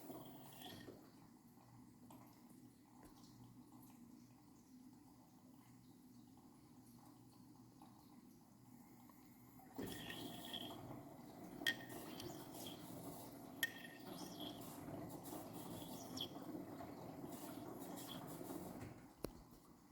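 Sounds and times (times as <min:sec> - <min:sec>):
water sloshing in washing machine: 0:00.0 - 0:19.9.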